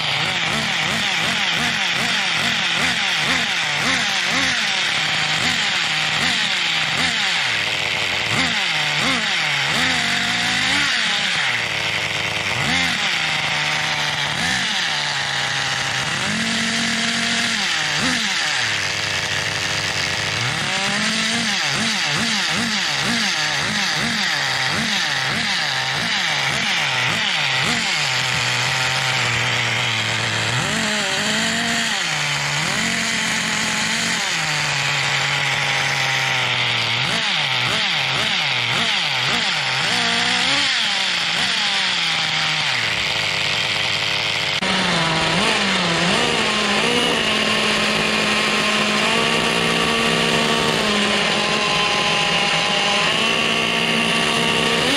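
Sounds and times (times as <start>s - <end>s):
model engine revving: 0.0s - 54.9s.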